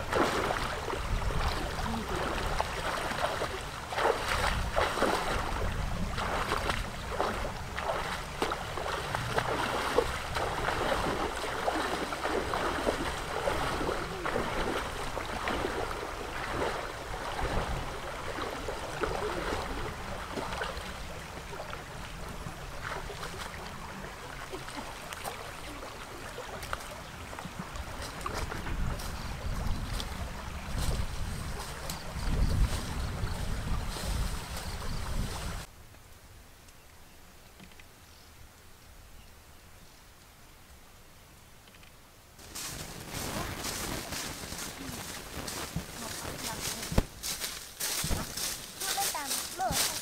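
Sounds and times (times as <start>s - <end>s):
feet splashing in stream: 0.0s - 35.7s, 42.4s - 50.0s
running water: 0.0s - 35.7s, 42.4s - 50.0s.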